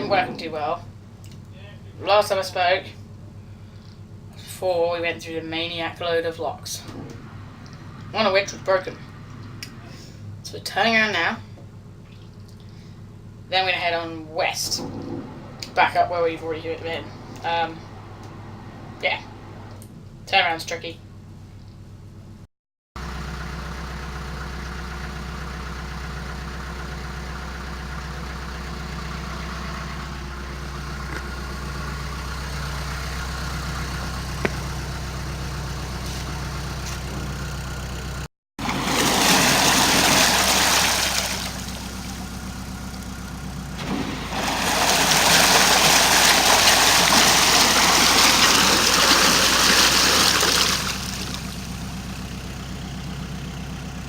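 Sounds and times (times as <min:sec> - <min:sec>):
diesel engine idling: 0:00.0 - 0:20.4, 0:23.0 - 0:54.0.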